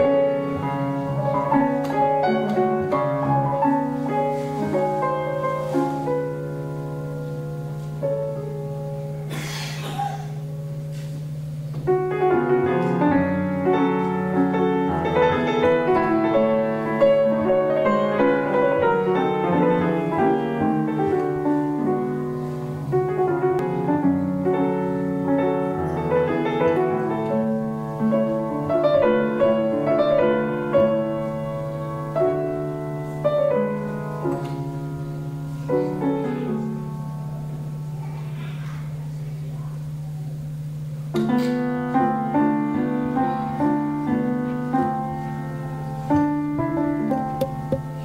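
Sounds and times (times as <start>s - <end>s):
solo piano classical piece: 0.0s - 48.0s.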